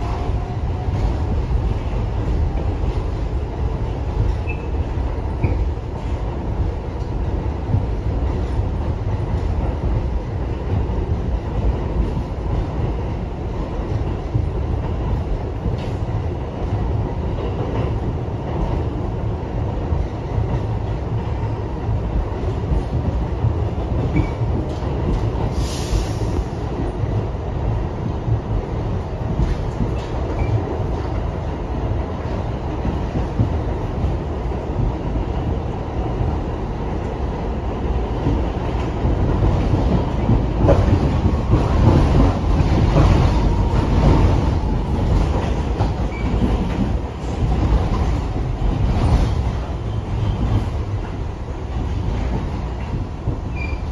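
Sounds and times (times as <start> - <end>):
subway car rumbling on rails: 0.0 - 53.9.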